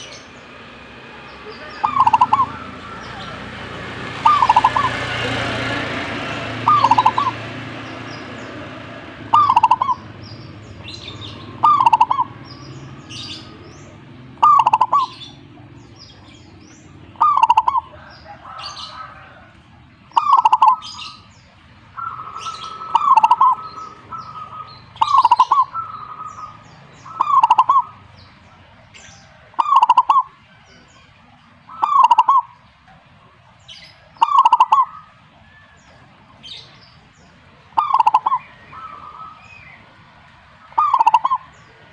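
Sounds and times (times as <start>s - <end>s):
dove cooing: 1.0s - 21.3s, 21.9s - 28.2s, 29.2s - 30.5s, 31.7s - 32.6s, 34.2s - 36.7s, 37.6s - 41.9s.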